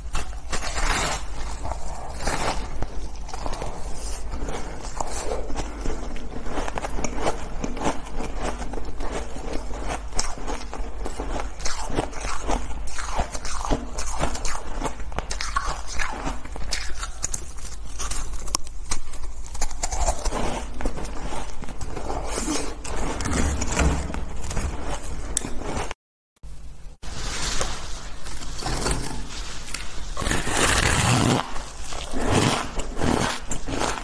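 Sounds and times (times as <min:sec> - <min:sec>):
ice crunching being chewed: 0:00.0 - 0:26.0, 0:27.6 - 0:34.0.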